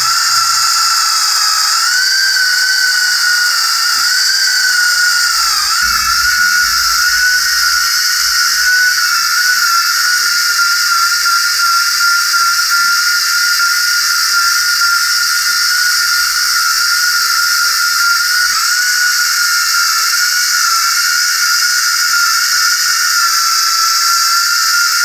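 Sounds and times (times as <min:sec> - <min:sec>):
power tool motor whine: 0:00.0 - 0:25.0.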